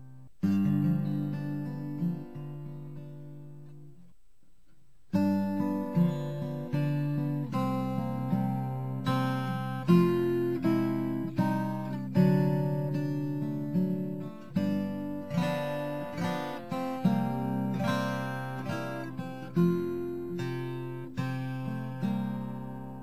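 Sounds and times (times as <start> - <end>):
acoustic guitar chords strummed: 0.0 - 4.1, 5.1 - 23.0.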